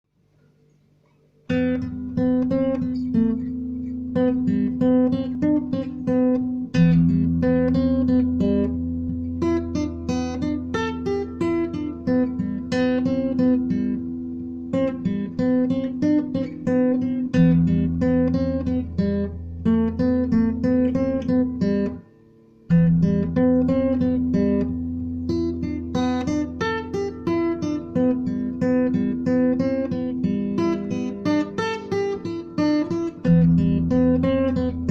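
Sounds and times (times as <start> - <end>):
acoustic guitar playing: 1.1 - 34.9.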